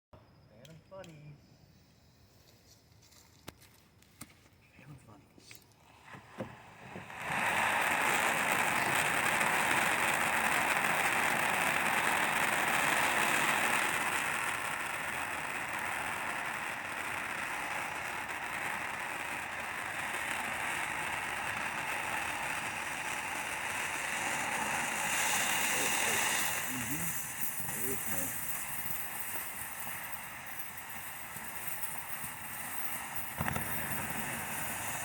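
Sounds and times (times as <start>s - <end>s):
firework fountain hissing: 5.7s - 35.0s.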